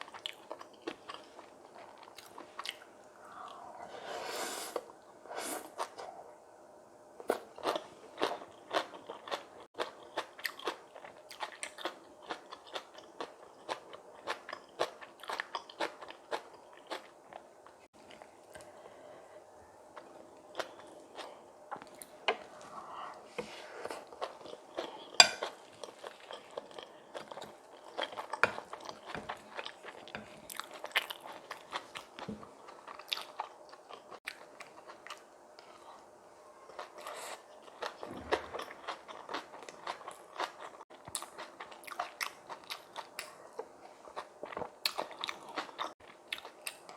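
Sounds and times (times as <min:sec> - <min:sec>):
crunching and chewing food: 0:00.0 - 0:03.6, 0:07.2 - 0:46.9.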